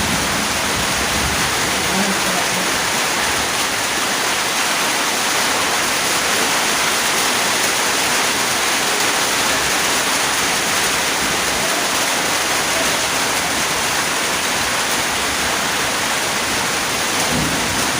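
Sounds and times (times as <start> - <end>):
steady rain: 0.0 - 17.9.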